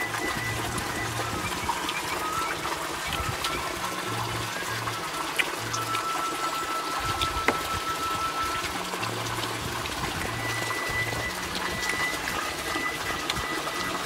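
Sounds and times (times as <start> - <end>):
background music with low notes: 0.0 - 14.0
running water trickling: 0.0 - 14.0.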